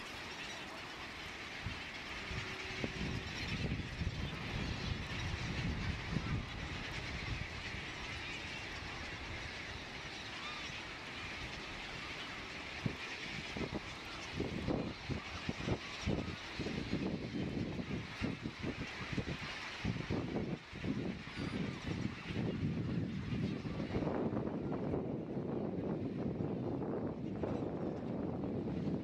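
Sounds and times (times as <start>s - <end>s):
seabird calls: 0.0s - 24.9s.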